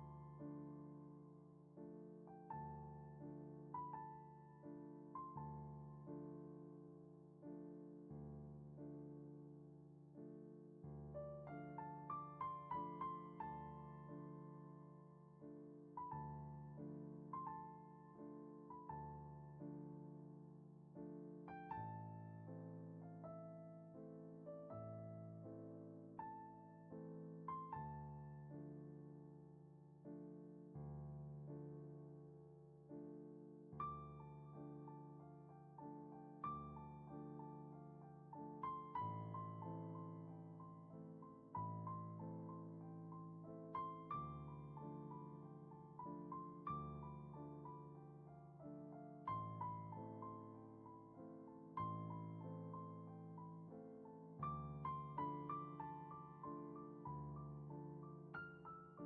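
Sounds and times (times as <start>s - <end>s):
slow quiet piano music: 0.0s - 59.0s.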